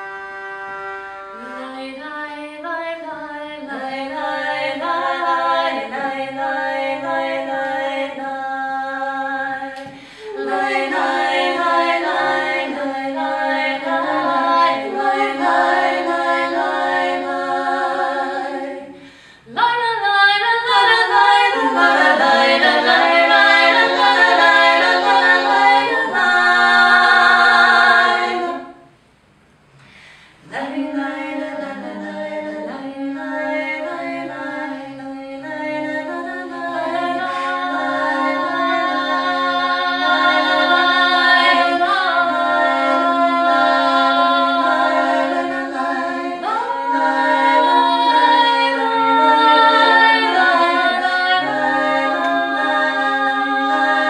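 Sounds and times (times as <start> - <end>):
women singing in harmony: 0.0 - 29.0, 30.4 - 54.0.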